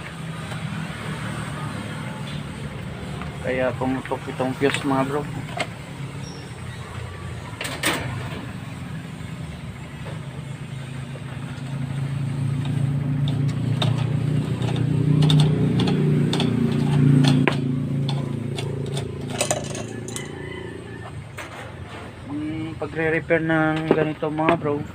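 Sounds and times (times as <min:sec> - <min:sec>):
passing vehicle engine rumble: 0:00.0 - 0:24.9.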